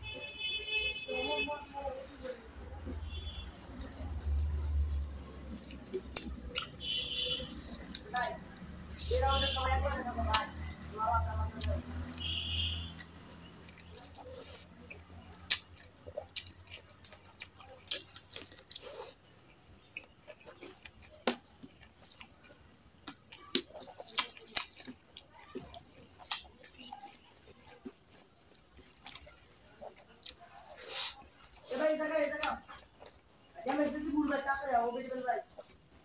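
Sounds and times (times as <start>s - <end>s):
fingers squishing rice: 0.0s - 36.0s
wet chewing with mouth clicks: 0.1s - 36.0s.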